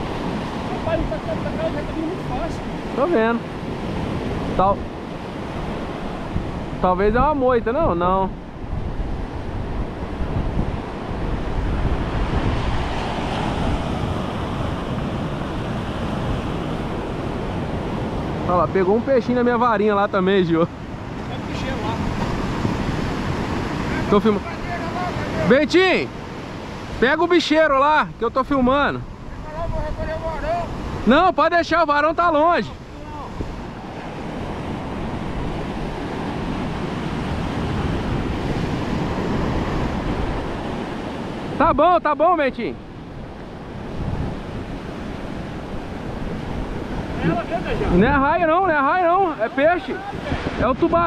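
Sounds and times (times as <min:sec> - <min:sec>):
wind buffeting microphone: 0:00.0 - 0:41.8, 0:42.7 - 0:51.0
ocean surf breaking on beach: 0:00.0 - 0:51.0.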